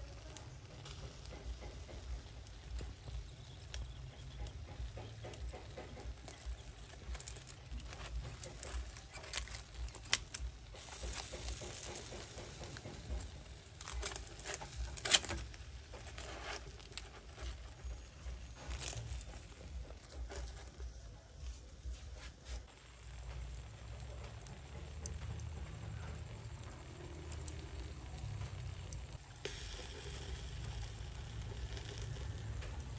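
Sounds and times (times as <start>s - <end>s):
fish grilling crackle: 0.0s - 32.9s.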